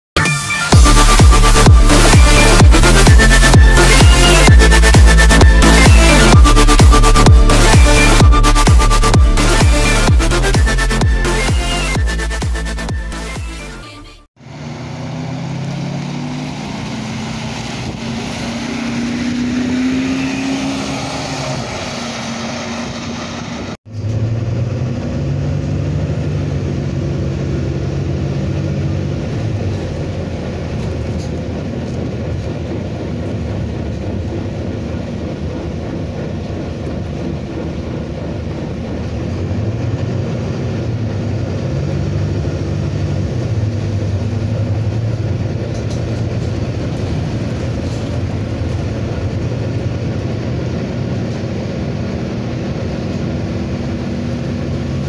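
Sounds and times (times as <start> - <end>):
bus diesel engine: 0.2 - 55.0.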